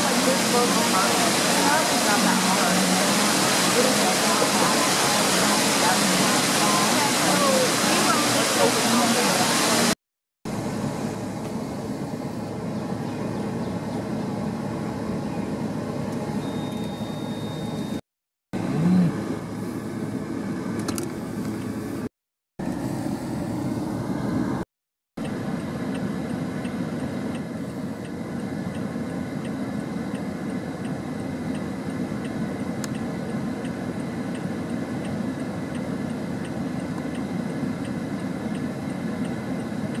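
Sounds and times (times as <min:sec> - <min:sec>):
distant road traffic hum: 0:00.0 - 0:18.0, 0:18.6 - 0:40.0.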